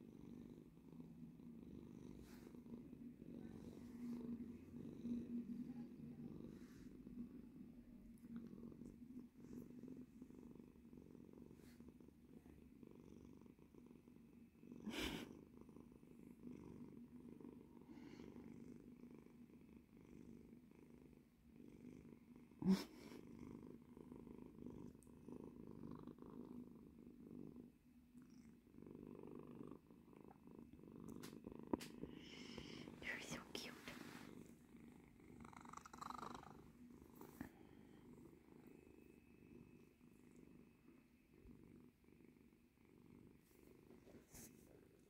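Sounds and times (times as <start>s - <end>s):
cat purring: 0.0s - 45.0s.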